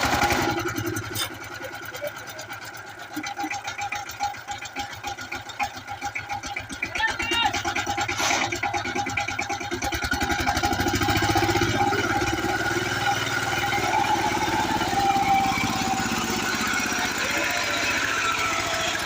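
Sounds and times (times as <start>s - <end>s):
diesel tiller engine running: 0.0s - 19.0s.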